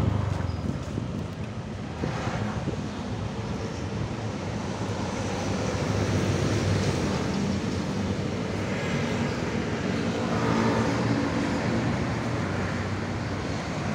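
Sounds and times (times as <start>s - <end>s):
vehicles driving past: 0.0s - 13.9s.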